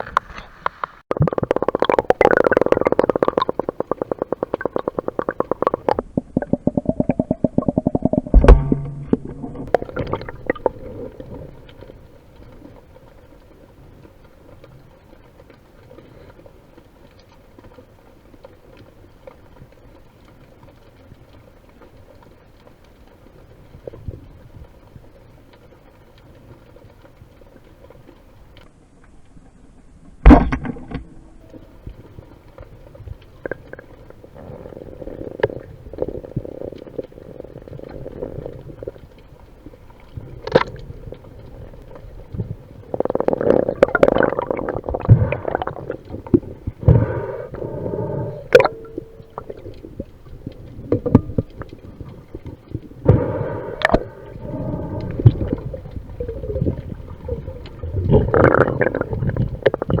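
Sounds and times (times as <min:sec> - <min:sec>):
underwater rumbling and gurgling: 0:00.0 - 1:00.0.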